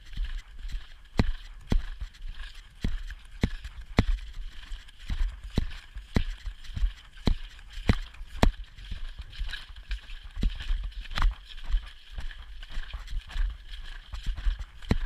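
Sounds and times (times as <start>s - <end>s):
horse hooves on turf: 0.0s - 15.0s.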